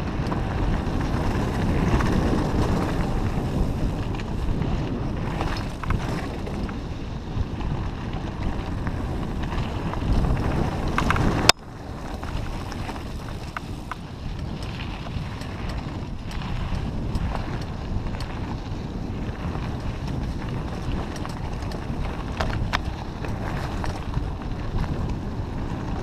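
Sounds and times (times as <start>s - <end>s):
bike clicking and rattling: 0.0s - 26.0s
tyres rumbling on rocky dirt: 0.0s - 26.0s
wind buffeting microphone: 0.0s - 26.0s.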